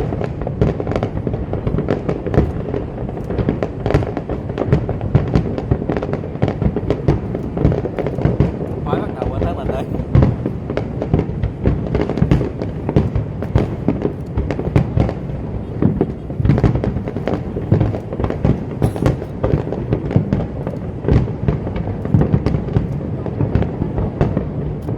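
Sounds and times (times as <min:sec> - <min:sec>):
fireworks bangs and booms: 0:00.0 - 0:24.9
fireworks crackle: 0:00.0 - 0:24.9.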